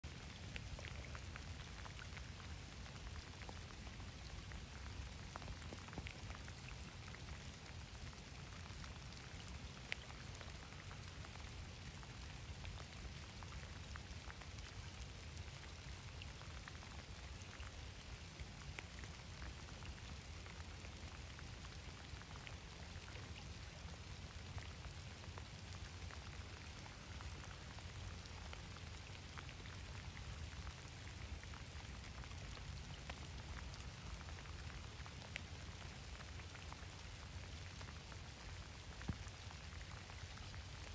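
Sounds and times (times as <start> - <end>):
rain on water: 0.0 - 40.9.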